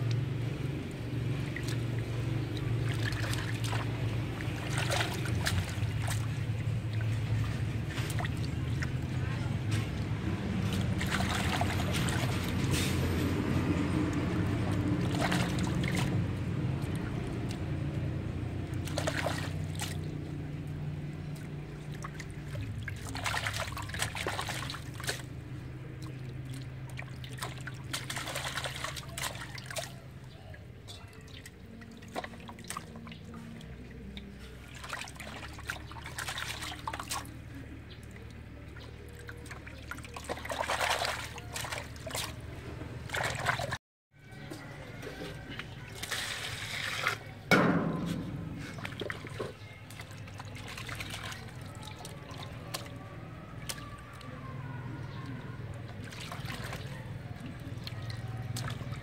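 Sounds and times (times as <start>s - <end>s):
water splashing and dripping: 0.0s - 43.8s, 44.4s - 59.0s.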